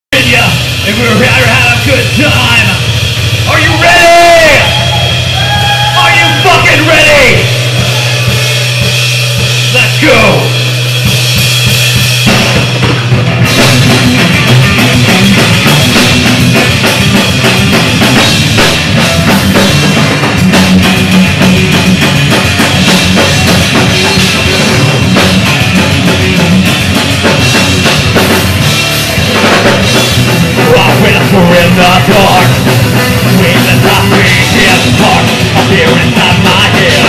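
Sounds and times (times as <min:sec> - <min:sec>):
heavy metal band playing: 0:00.1 - 0:37.0.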